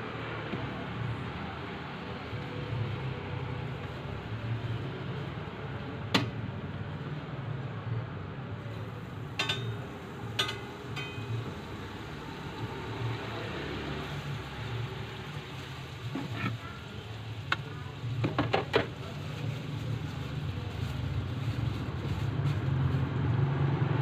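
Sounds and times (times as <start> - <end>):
noisy background haze: 0.0 - 24.0.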